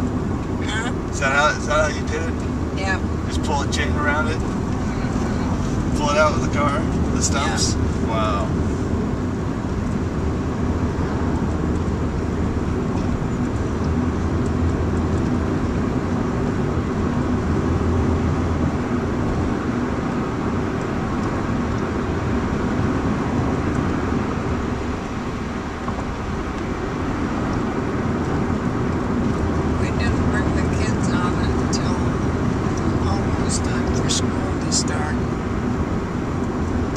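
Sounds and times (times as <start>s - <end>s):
car engine and tyre rumble: 0.0s - 36.9s.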